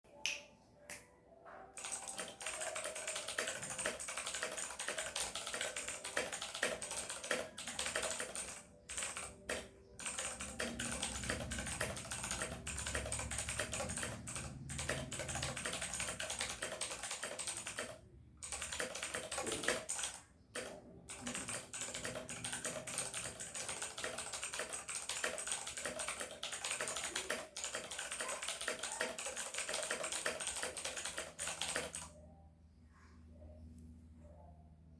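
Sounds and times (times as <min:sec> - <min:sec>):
fast typing on mechanical keyboard: 0:01.8 - 0:32.2.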